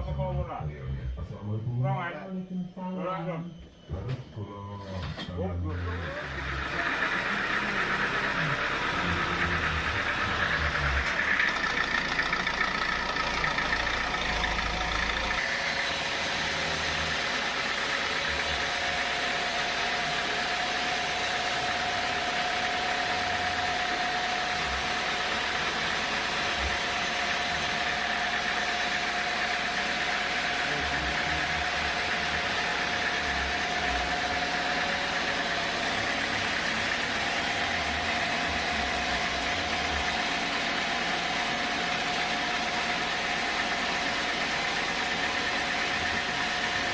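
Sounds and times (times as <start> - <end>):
steady machine whine: 0.0 - 46.9
sawmill machinery running: 5.0 - 46.9.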